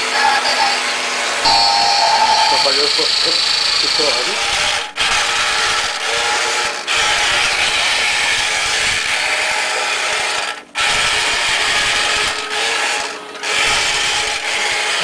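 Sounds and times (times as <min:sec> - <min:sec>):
toy electric motors whirring: 0:02.6 - 0:15.0.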